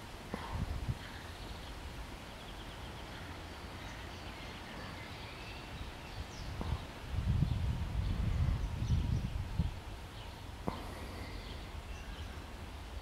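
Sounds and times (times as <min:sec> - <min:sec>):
distant songbirds chirping: 0:00.0 - 0:13.0.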